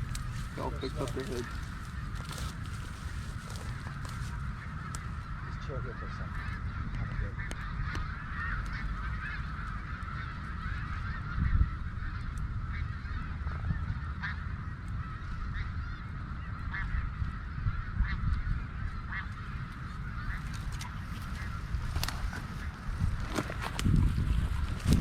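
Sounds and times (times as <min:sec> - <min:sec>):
flock of geese honking: 0:00.0 - 0:25.0.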